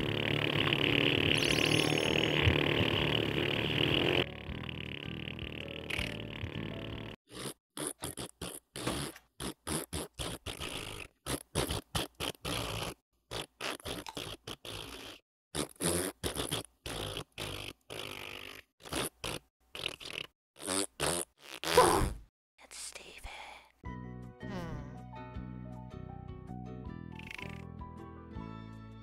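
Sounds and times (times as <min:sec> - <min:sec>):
person blowing raspberries: 0:00.0 - 0:22.3, 0:24.4 - 0:25.0, 0:27.1 - 0:27.8.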